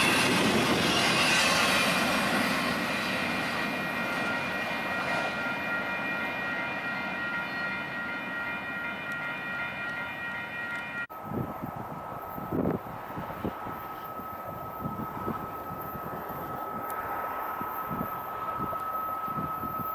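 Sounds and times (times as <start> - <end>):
high whining wheels on rail: 0.0 - 19.9
train rolling past: 0.0 - 19.9.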